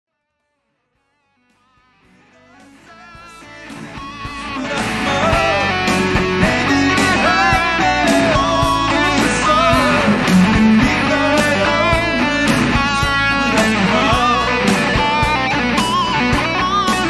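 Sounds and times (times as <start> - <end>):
electric guitar solo: 1.2 - 17.0
rock backing track with drums: 1.4 - 17.0.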